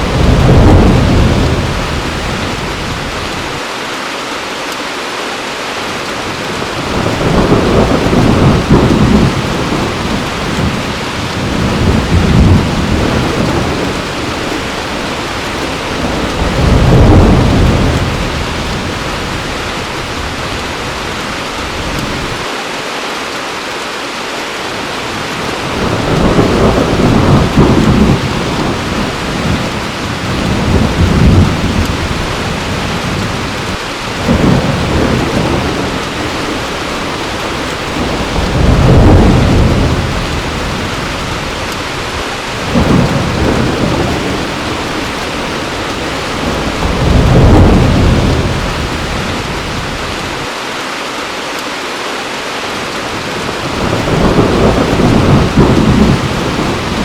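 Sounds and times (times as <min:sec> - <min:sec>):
thunder rumbling: 0:00.0 - 0:03.6, 0:06.3 - 0:22.4, 0:25.2 - 0:50.5, 0:53.0 - 0:57.0
heavy rain: 0:00.0 - 0:57.0.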